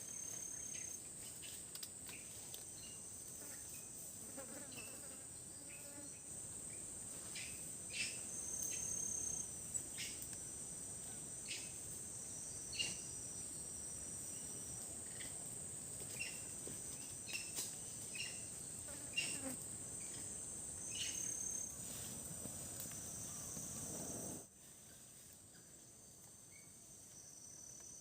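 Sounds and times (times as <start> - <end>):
thin insect tone: 0.0 - 28.0.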